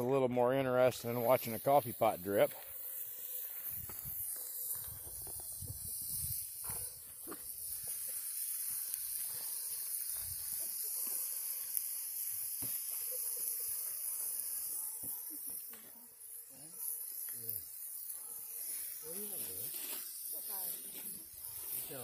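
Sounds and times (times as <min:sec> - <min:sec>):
campfire crackles and pops: 0:00.8 - 0:16.4, 0:17.0 - 0:22.0
food hissing in a skillet: 0:01.0 - 0:22.0.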